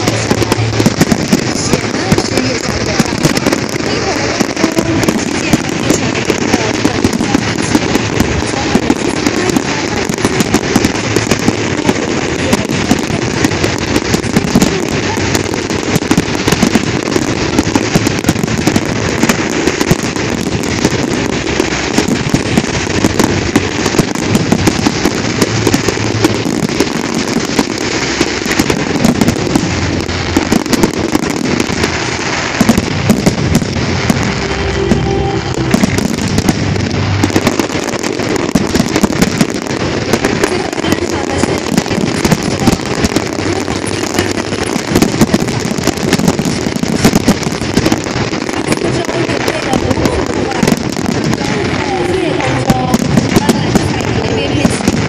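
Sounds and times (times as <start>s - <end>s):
fireworks bursts and crackle: 0.0s - 55.0s.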